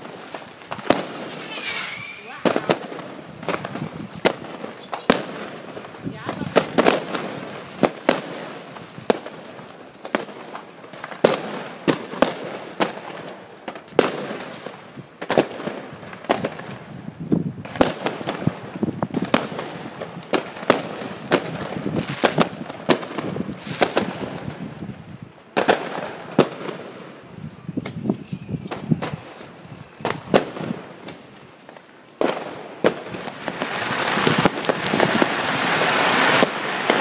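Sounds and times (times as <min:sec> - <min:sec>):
distant fireworks crackle: 0:00.0 - 0:37.0
firecrackers banging: 0:00.0 - 0:37.0.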